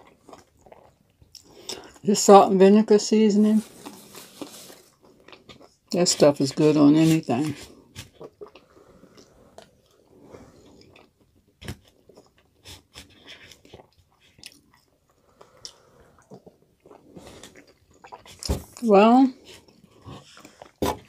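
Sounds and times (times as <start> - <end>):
person chewing food: 0.0 - 2.0, 3.7 - 6.0, 7.4 - 18.8, 19.4 - 21.0.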